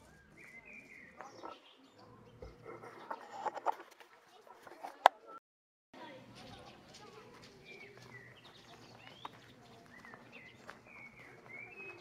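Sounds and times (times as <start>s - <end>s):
small birds chirping: 0.0s - 5.4s, 6.0s - 12.0s.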